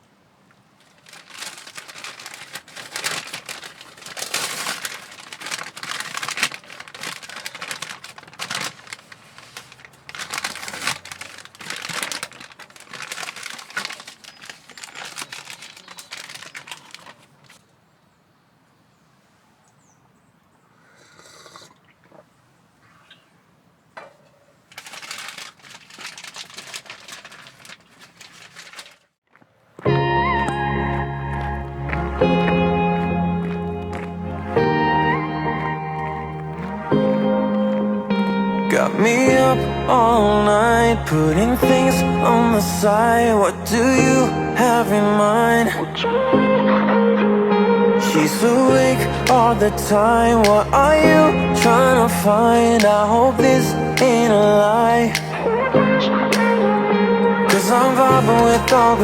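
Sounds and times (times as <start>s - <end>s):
material crinkling and rustling: 0.0s - 17.7s, 24.0s - 45.7s, 48.2s - 55.7s, 57.5s - 59.0s.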